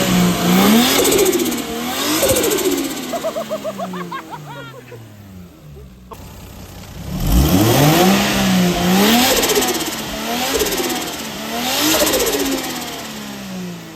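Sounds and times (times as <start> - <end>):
car engine revving hard: 0.0 - 13.9.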